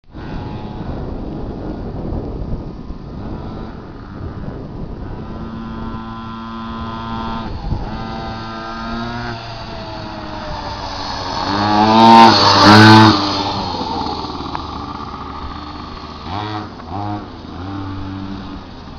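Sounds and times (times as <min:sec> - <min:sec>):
minibike engine revving: 0:00.1 - 0:02.1, 0:03.1 - 0:18.9.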